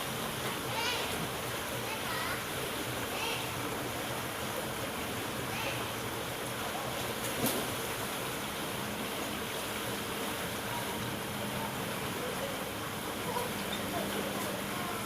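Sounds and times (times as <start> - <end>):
pool water rushing and splashing: 0.0 - 15.0.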